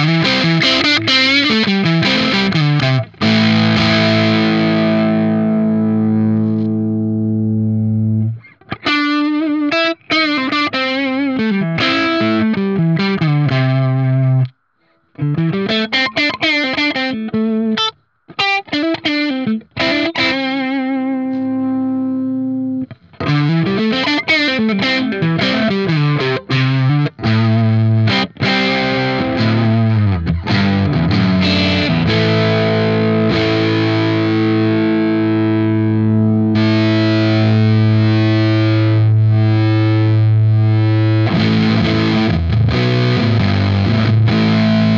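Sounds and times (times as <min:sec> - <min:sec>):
overdriven electric guitar: 0:00.0 - 0:44.9.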